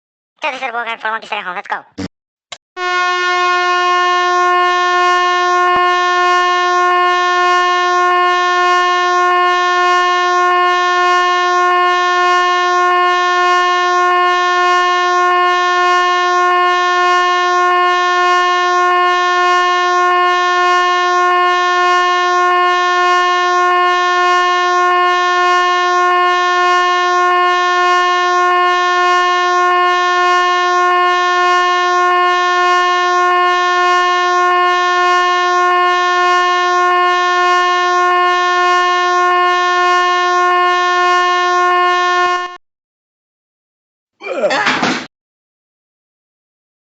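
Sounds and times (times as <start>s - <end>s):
air horn steady shrill note: 2.8s - 42.6s.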